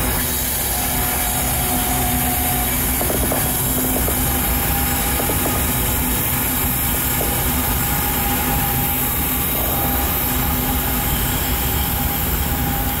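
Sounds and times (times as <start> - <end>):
train cars rumbling on rails: 0.0 - 13.0.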